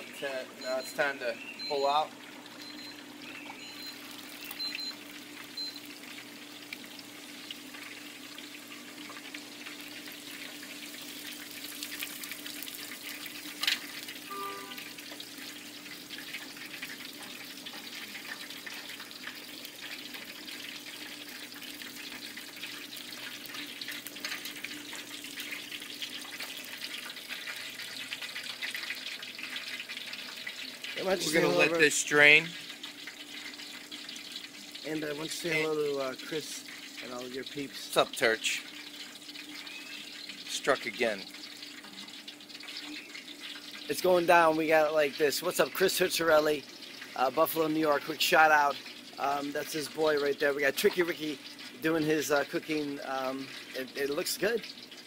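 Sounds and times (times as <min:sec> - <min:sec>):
hot oil sizzling and crackling: 0:00.0 - 0:55.0
oil dripping into pot: 0:00.6 - 0:31.0, 0:31.9 - 0:55.0.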